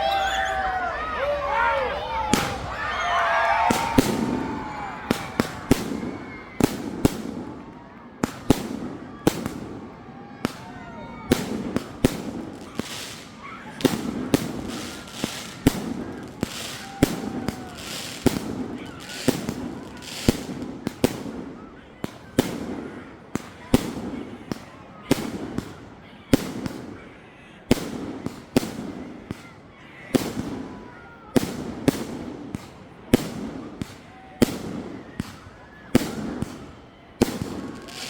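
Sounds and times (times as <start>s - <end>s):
fireworks banging: 1.8s - 27.0s, 31.4s - 38.0s.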